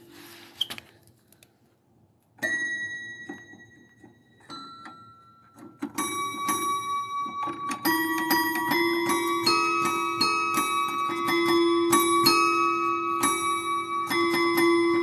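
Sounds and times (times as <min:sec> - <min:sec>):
electronic piano notes: 0:02.4 - 0:15.0.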